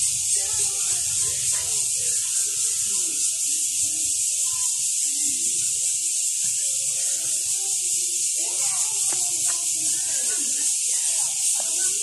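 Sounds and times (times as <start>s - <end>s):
faint distant voices: 0.0s - 12.0s
steady high-pitched hiss: 0.0s - 12.0s.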